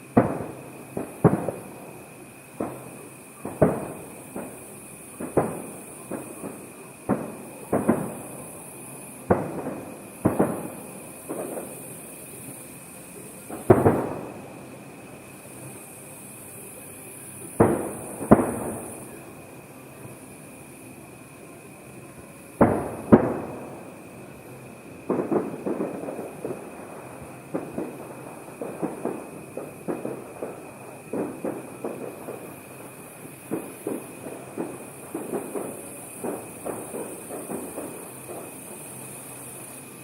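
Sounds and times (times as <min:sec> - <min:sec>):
fireworks bursting: 0:00.0 - 0:40.0
fireworks pops and crackles: 0:00.0 - 0:40.0.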